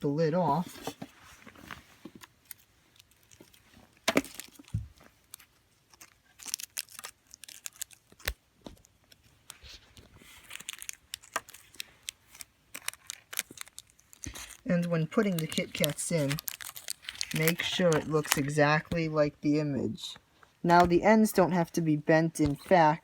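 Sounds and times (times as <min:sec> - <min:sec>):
wrappers crinkling: 0:00.5 - 0:19.0.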